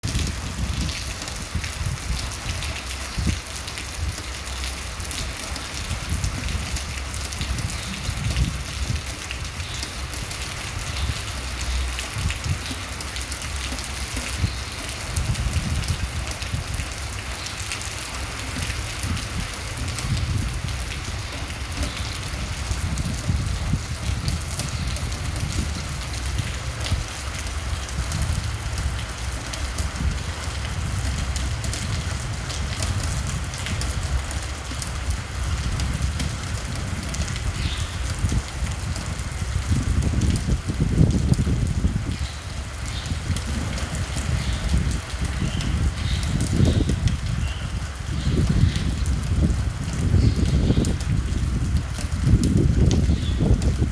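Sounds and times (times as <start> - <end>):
gusting wind rumble: 0.0 - 4.2, 5.0 - 53.9
rain drops ticking: 0.0 - 53.9.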